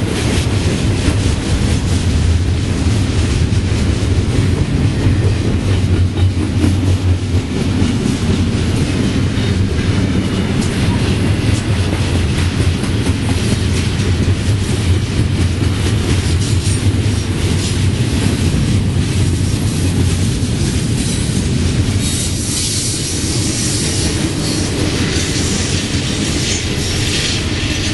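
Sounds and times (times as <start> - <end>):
steel wheels rumbling on rail: 0.0 - 27.9.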